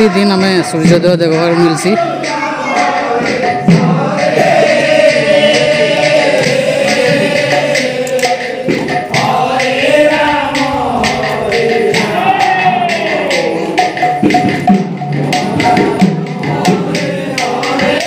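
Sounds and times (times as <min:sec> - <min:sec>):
men chanting together: 0:00.0 - 0:18.0
percussion clicking a beat: 0:00.0 - 0:18.0.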